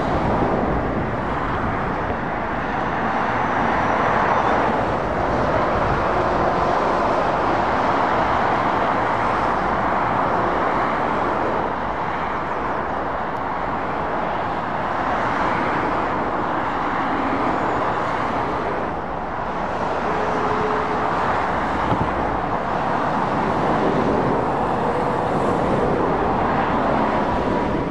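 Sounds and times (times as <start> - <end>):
traffic passing close by: 0.0 - 27.9.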